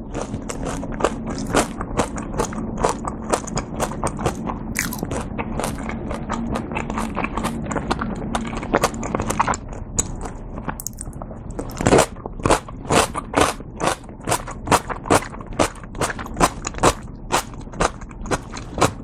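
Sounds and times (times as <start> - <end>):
close chewing of food: 0.0 - 19.0.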